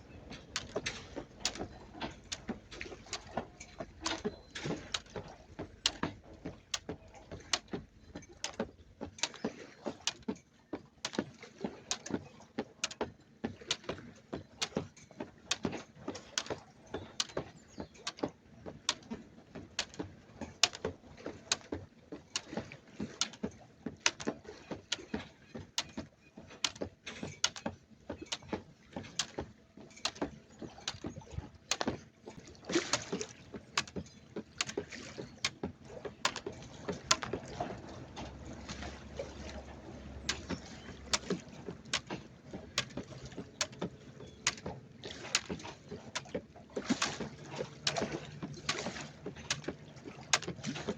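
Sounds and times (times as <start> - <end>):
jump rope slapping ground: 0.3 - 50.9.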